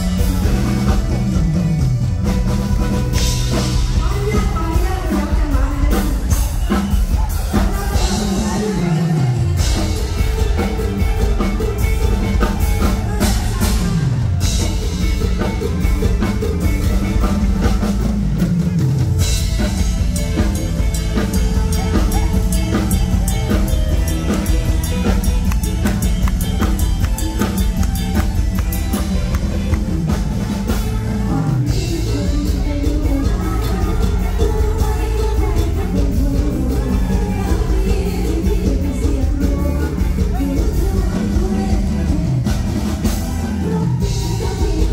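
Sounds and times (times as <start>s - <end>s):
drum kit beat: 0.0s - 44.9s
electric bass: 0.0s - 44.9s.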